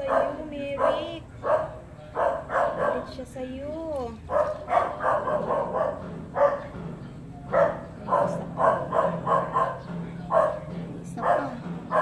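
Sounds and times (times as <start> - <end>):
dog barking: 0.0 - 3.3, 4.3 - 6.8, 7.5 - 12.0.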